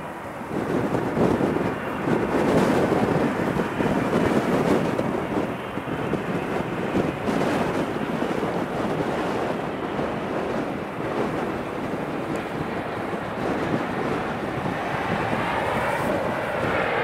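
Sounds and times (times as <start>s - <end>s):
jet engine roar: 0.0s - 17.0s
wind buffeting microphone: 0.0s - 17.0s.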